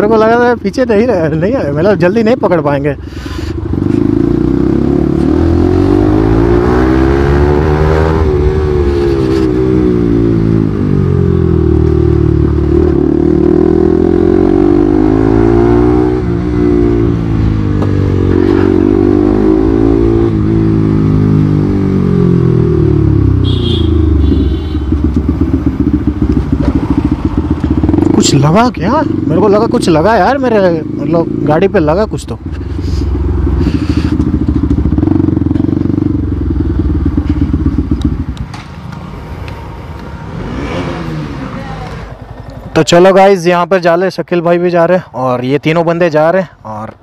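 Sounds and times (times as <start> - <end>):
motorcycle engine revving: 3.3 - 42.9.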